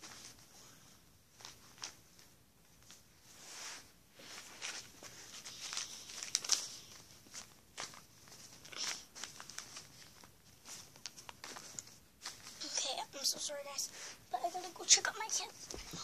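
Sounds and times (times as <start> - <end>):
hands rustling and handling objects: 0.0 - 16.0.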